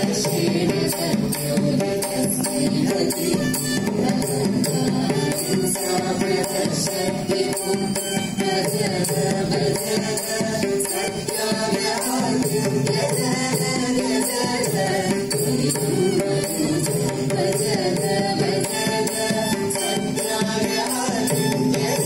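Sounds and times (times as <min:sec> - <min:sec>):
group singing devotional song: 0:00.0 - 0:22.0
violin: 0:00.0 - 0:22.0.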